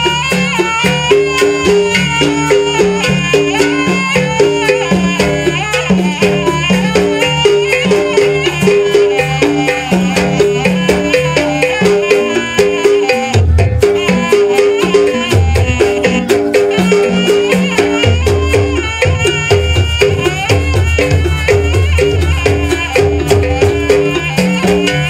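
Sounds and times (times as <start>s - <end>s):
fast drum strokes: 0.0s - 25.0s
wavering reed melody: 0.0s - 25.0s.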